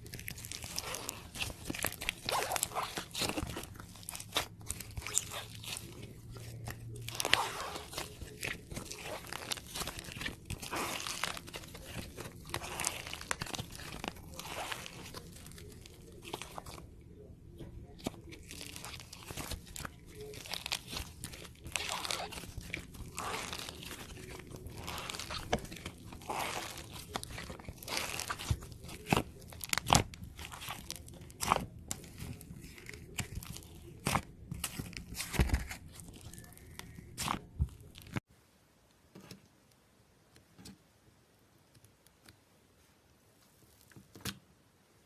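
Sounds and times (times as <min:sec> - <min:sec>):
slime squished crunchy crackling: 0:00.0 - 0:38.3.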